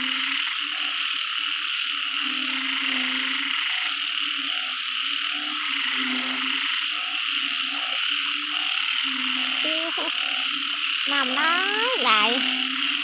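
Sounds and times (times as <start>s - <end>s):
high-pitched frog chorus: 0.0s - 13.0s
low droning frog calls: 0.0s - 13.0s
rising frog calls: 0.0s - 13.0s.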